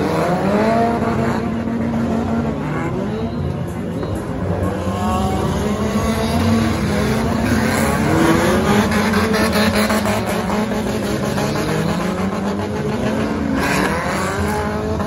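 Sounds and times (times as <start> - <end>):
stock car engines revving: 0.0 - 15.0.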